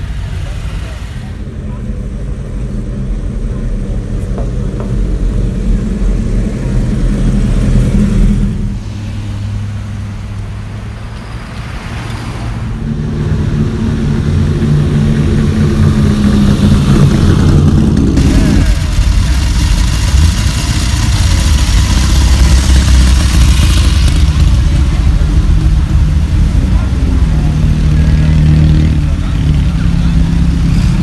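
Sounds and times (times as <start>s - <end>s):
car engines driving past: 0.0s - 31.0s.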